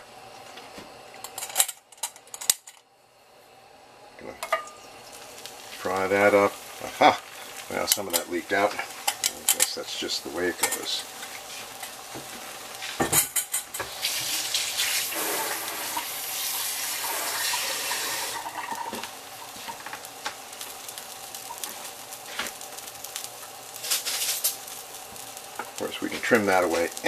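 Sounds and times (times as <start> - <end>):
egg sizzling in oil: 0.0 - 27.0.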